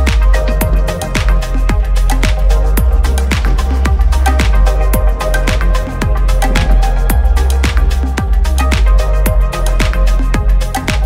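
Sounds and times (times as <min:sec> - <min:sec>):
music with kick drum and bass: 0:00.0 - 0:11.0.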